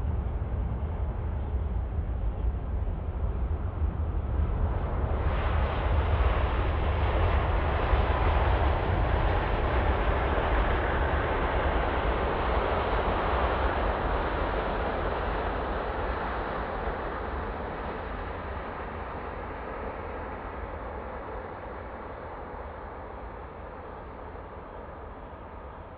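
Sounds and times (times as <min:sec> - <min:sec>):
deep rumble of rolling airliner: 0:00.0 - 0:25.9
jet engine and airflow rush: 0:00.0 - 0:25.9.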